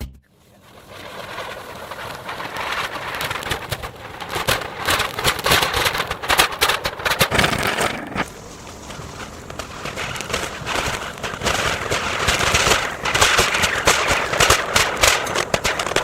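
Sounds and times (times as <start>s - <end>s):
rapid crackling clatter: 0.6s - 16.0s.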